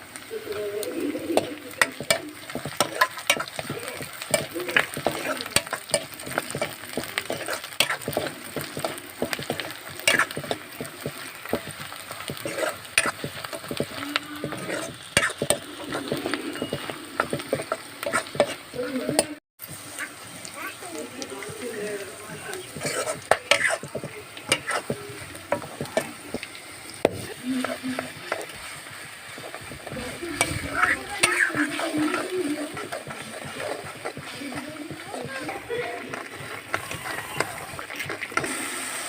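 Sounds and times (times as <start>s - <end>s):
chicken sizzling in a pan: 0.0s - 39.0s
spatula scraping a pan: 0.5s - 20.2s, 20.9s - 39.0s.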